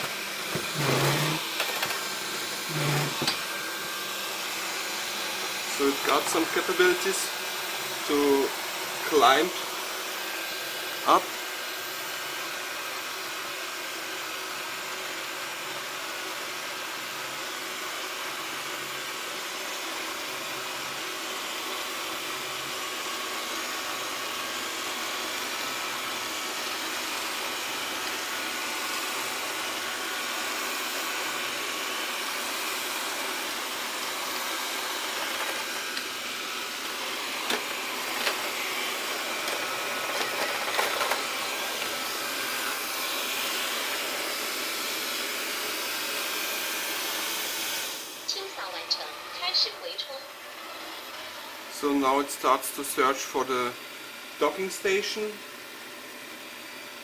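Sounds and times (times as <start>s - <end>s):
robot vacuum whirring: 0.0s - 20.4s, 21.0s - 57.0s.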